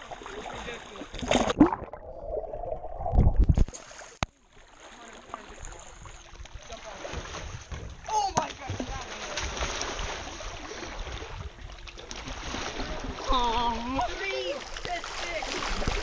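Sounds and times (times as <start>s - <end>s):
pool water splashing: 0.0s - 16.0s.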